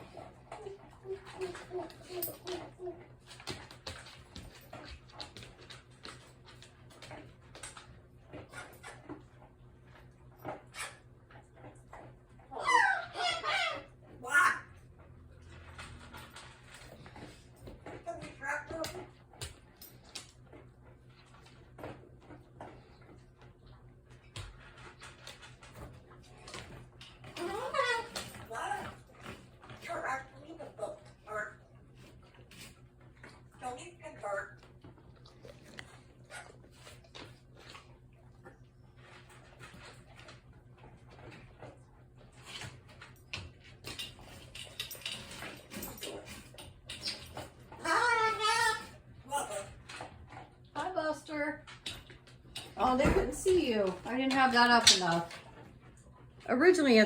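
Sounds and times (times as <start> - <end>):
dogs eating from bowls: 0.0 - 57.0.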